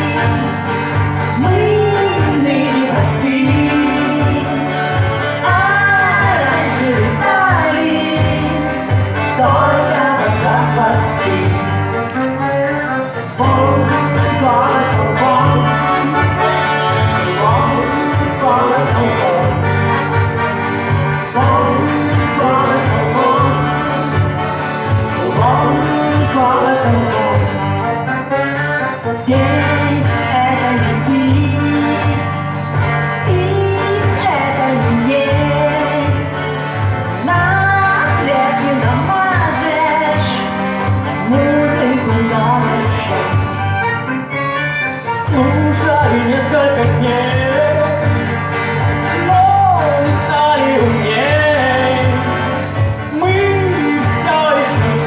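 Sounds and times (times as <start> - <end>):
instrumental accompaniment with bass: 0.0 - 55.0
person singing: 0.0 - 55.0.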